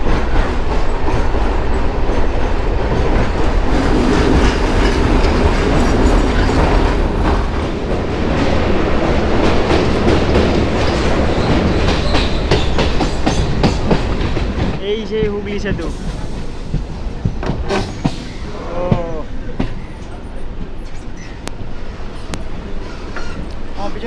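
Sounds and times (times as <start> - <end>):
wheels clattering over rail joints: 0.0 - 21.5
train low rumble: 0.0 - 24.0.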